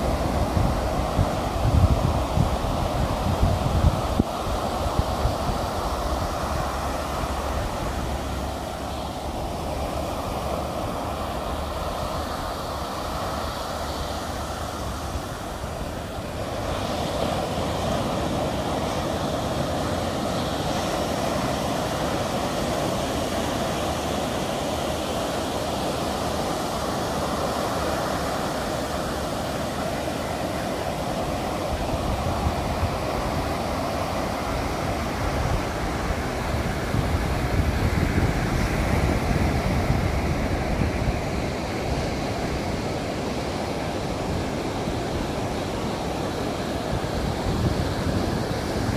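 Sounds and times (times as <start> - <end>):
ocean surf breaking on shore: 0.0 - 48.9.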